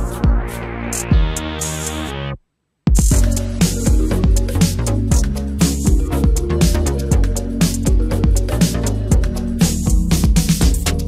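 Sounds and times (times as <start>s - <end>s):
instrumental music with drums and bass: 0.0s - 11.0s.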